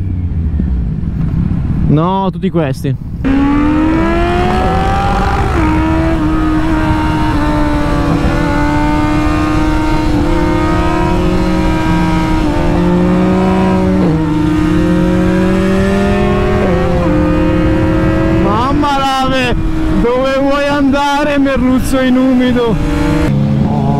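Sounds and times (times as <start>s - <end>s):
wind rush on microphone: 0.1s - 23.9s
motorcycle engine cruising: 3.0s - 23.9s.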